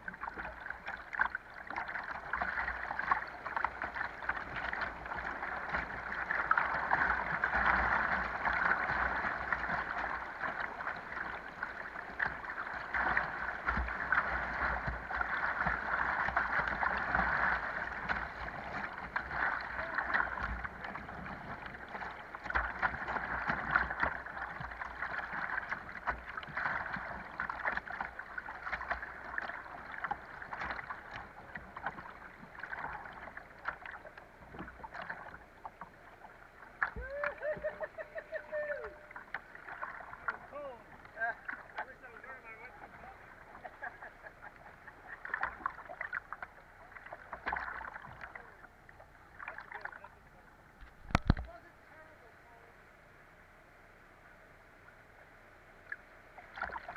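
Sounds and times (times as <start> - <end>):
water splashing against boat: 0.0 - 52.2, 55.8 - 56.9.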